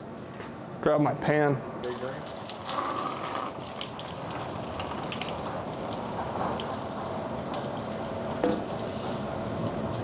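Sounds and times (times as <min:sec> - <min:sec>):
liquid trickling into a pan: 0:01.8 - 0:10.0.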